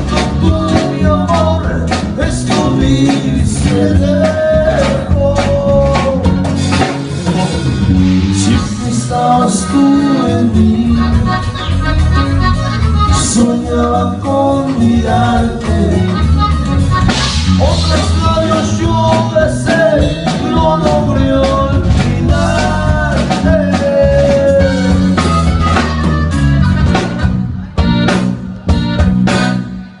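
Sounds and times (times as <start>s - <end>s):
band playing instrumental: 0.0s - 30.0s.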